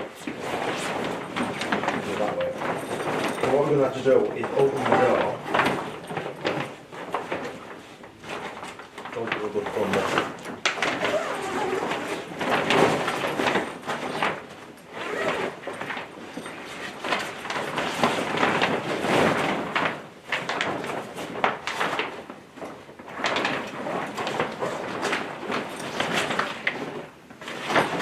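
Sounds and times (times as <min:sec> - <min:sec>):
fabric tent cover rustling: 0:00.0 - 0:28.0.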